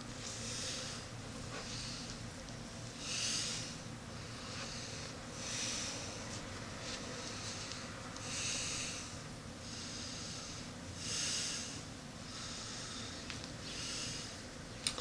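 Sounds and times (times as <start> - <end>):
man breathing noisily: 0.3 - 2.2, 2.9 - 6.4, 7.0 - 14.5.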